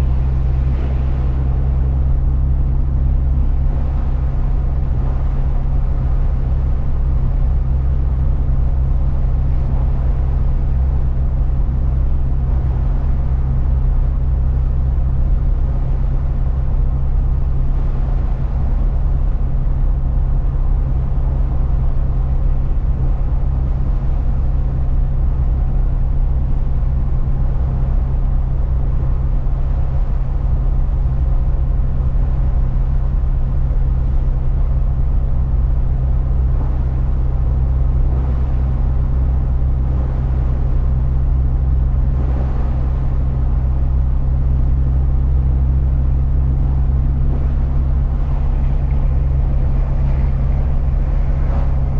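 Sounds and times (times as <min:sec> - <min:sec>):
truck engine and road noise: 0:00.0 - 0:51.9.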